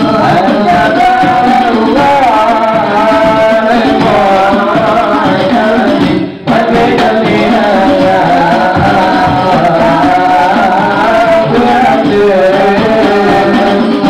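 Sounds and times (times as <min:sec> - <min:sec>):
hand drums: 0:00.0 - 0:14.0
man singing devotional song: 0:00.0 - 0:14.0.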